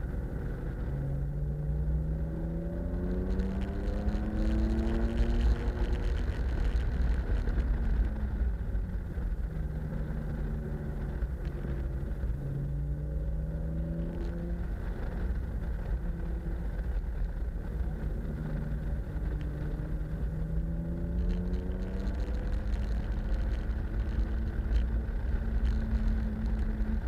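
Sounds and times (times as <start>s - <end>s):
car engine revving while driving: 0.0s - 27.0s
wind and road noise: 0.0s - 27.0s.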